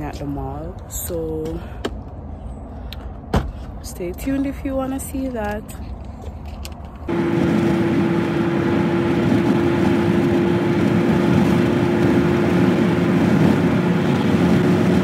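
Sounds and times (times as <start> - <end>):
car road and wind noise: 0.0 - 15.0
constant droning hum: 0.0 - 15.0.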